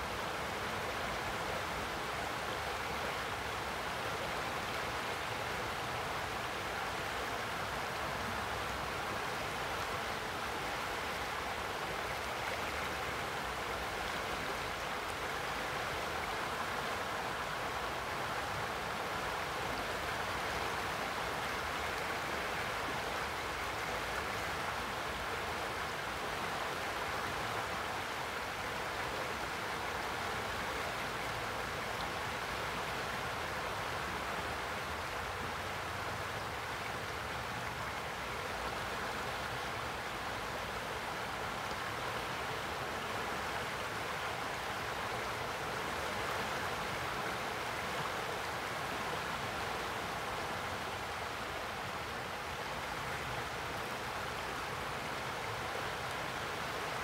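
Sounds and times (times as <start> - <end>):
river water rushing and splashing: 0.0 - 57.0.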